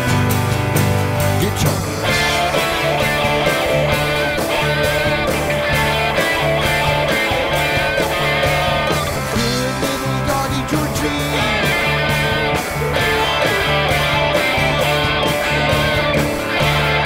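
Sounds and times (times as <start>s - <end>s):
bass line: 0.0s - 17.0s
drums steady beat: 0.0s - 17.0s
electric guitar melody: 0.0s - 17.0s.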